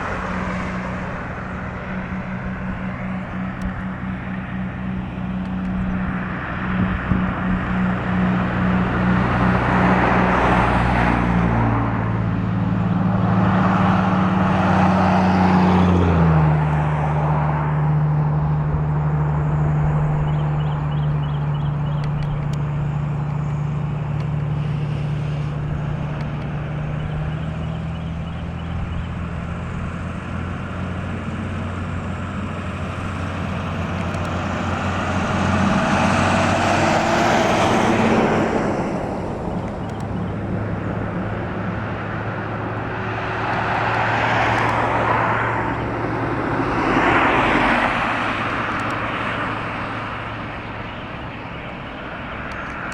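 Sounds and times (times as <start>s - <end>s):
diesel locomotive engine drone: 0.0s - 52.9s.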